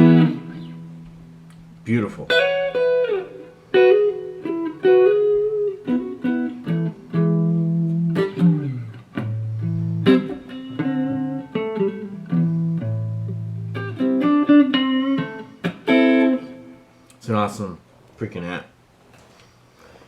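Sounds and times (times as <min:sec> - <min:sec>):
electric guitar notes: 0:00.0 - 0:17.2.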